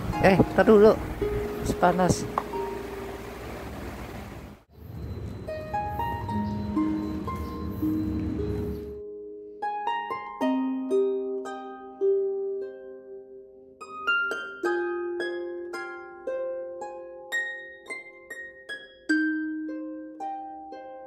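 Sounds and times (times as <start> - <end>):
harp-like plucked string melody: 0.0 - 3.3, 5.1 - 21.0.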